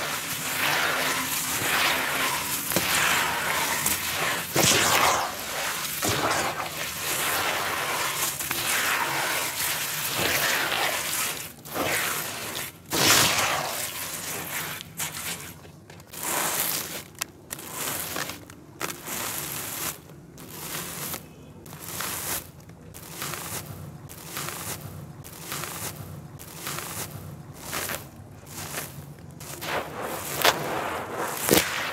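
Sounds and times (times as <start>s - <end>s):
hands squishing gritty clay: 0.0s - 31.9s.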